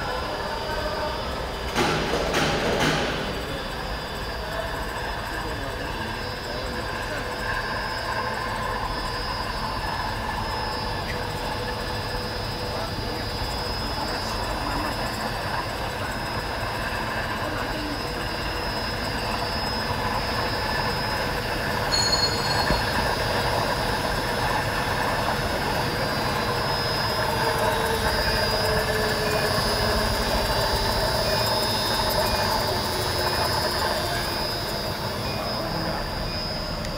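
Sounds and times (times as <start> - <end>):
high mechanical whine: 0.0 - 36.9
slitter rewinder machine running: 0.0 - 36.9.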